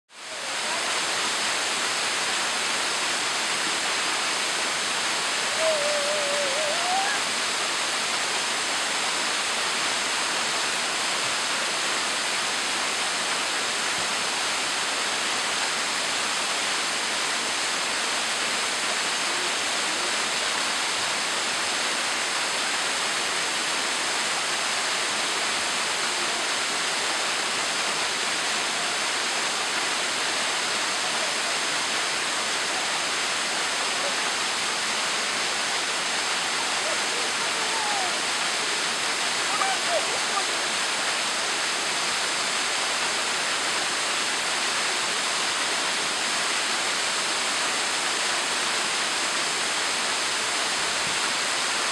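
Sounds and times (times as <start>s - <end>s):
waterfall splashing: 0.1s - 51.9s.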